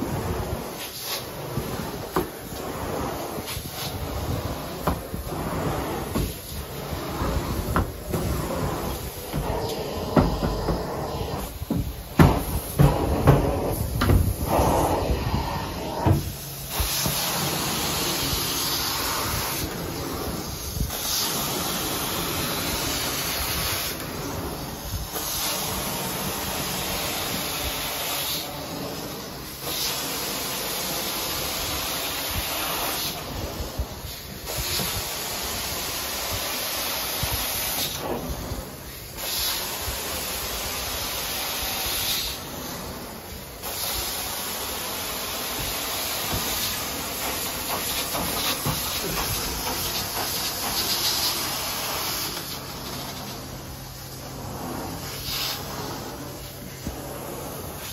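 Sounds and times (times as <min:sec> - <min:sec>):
carpet extraction wand hissing: 0:00.0 - 0:57.9.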